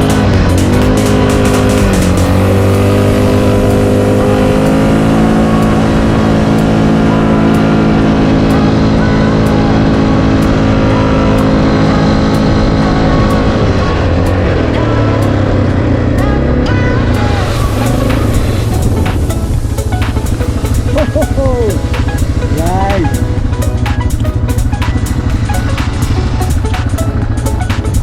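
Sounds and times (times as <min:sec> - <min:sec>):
quad bike engine at high revs: 0:00.0 - 0:28.0.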